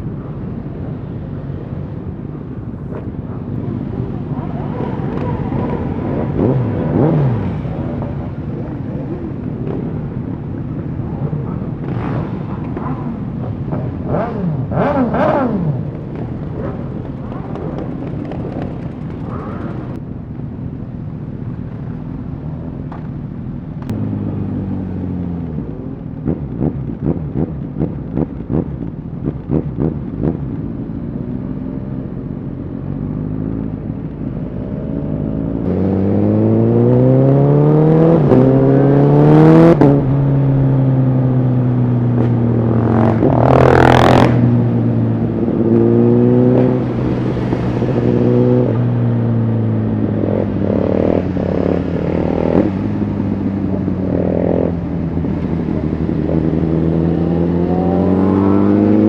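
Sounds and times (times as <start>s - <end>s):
motorcycle engine accelerating: 2.9s - 20.0s, 23.8s - 59.0s.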